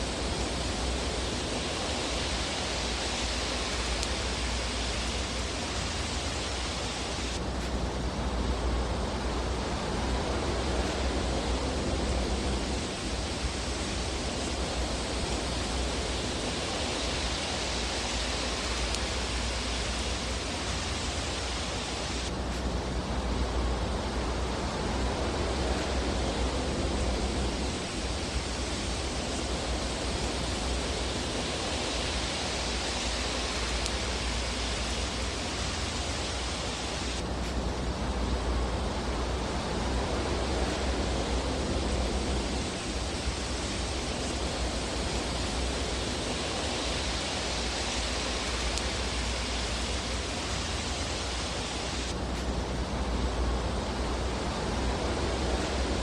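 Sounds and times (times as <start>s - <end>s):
fireplace fire hissing: 0.0s - 56.0s.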